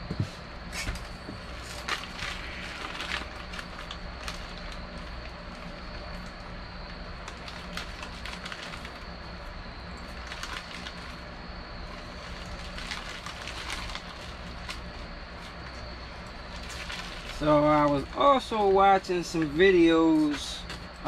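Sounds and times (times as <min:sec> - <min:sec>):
faint high whine: 0:00.0 - 0:21.0
steady background hum: 0:00.0 - 0:21.0
plastic bag crinkling: 0:01.0 - 0:18.6.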